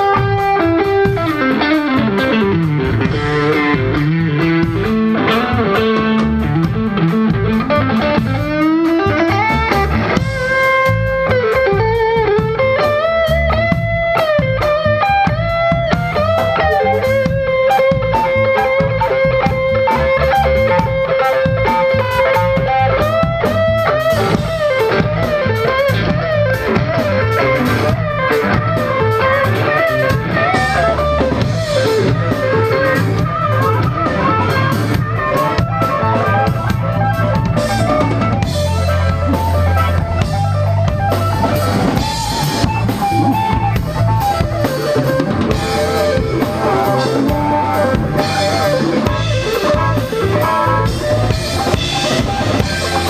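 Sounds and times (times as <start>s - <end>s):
drum kit: 0.0s - 53.0s
electric guitar bending notes: 0.0s - 53.0s.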